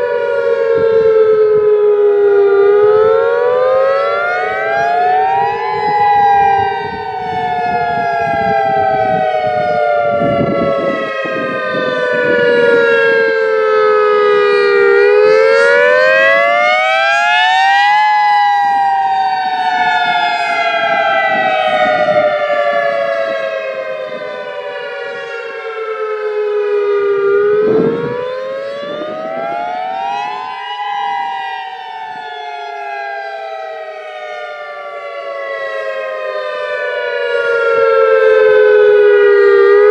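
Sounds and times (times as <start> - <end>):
electronic siren wail: 0.0 - 39.9.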